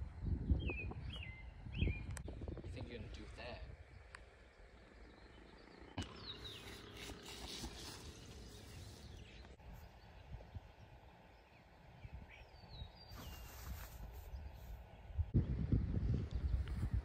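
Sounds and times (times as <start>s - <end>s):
low steady rumble: 0.0s - 13.1s, 14.1s - 17.0s
birds chirping: 0.1s - 15.6s.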